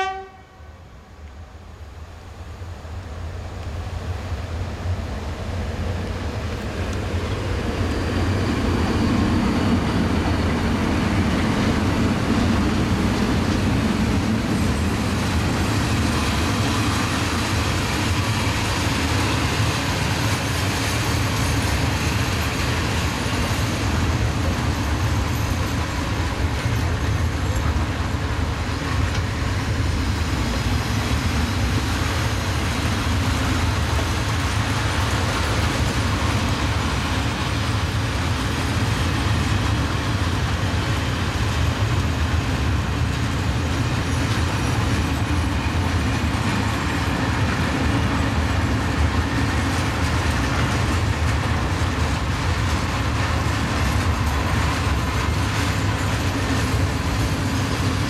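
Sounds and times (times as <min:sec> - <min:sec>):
steel wheels running on rails: 0:03.3 - 0:58.0.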